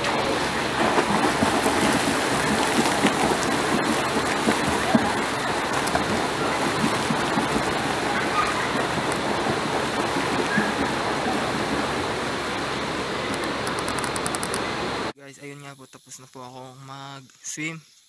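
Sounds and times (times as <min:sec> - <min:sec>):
swimmer splashing water: 0:00.0 - 0:15.2.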